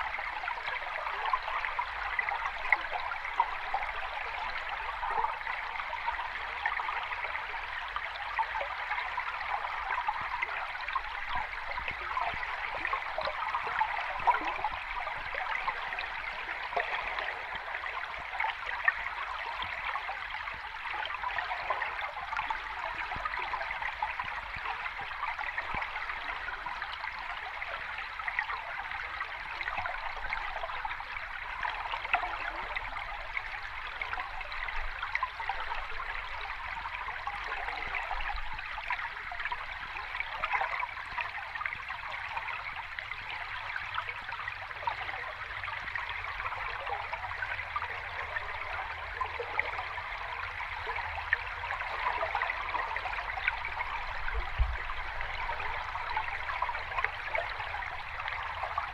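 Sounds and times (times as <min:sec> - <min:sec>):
water babbling over rocks: 0:00.0 - 0:58.9.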